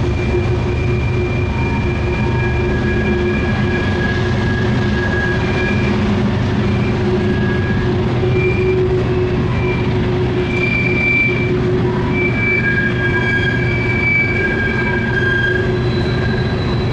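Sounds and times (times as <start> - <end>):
freight train rumbling past: 0.0 - 16.9
wheel flanges screeching on rail: 0.0 - 16.9.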